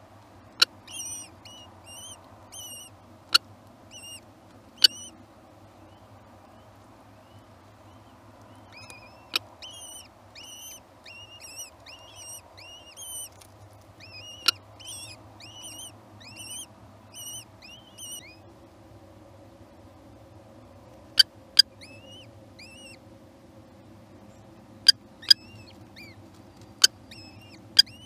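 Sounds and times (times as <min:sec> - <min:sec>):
bird chicks begging calls: 0:00.4 - 0:18.5, 0:20.9 - 0:23.0, 0:24.2 - 0:28.0.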